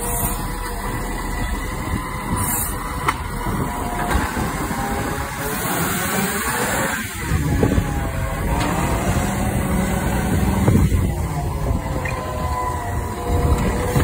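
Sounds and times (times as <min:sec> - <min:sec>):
garbage truck engine running: 0:00.0 - 0:14.0
hydraulic arm: 0:00.0 - 0:14.0.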